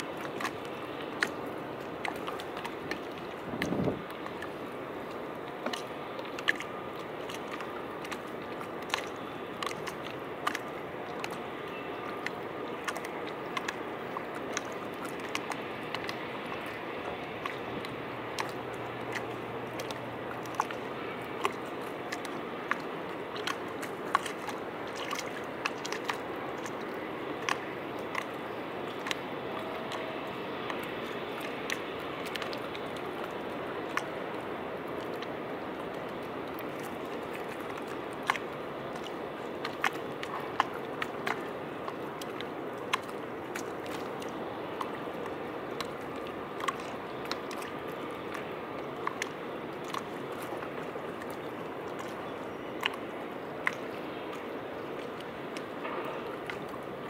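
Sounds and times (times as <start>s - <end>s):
sharp irregular water clicks: 0.0s - 57.0s
small waves lapping against steps: 0.0s - 57.0s.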